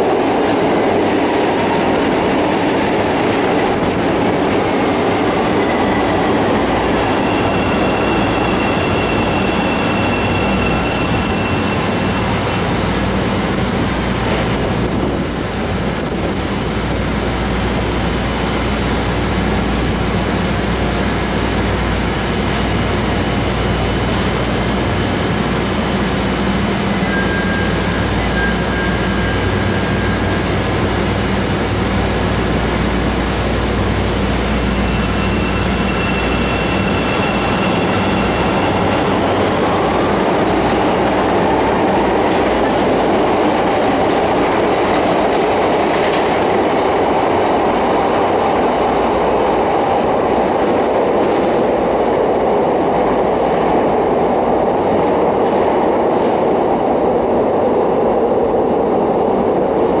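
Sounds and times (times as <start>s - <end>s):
subway train humming: 0.0s - 60.0s
subway train rumbling: 0.0s - 60.0s.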